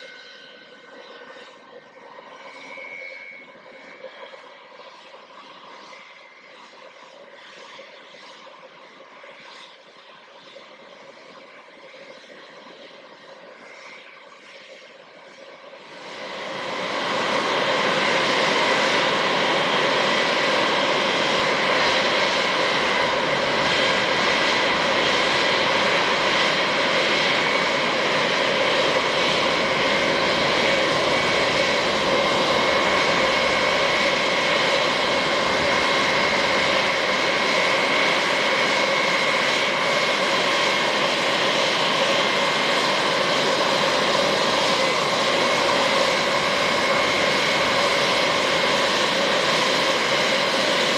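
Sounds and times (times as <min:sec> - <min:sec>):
jet engines rushing with whine: 0:00.0 - 0:50.9.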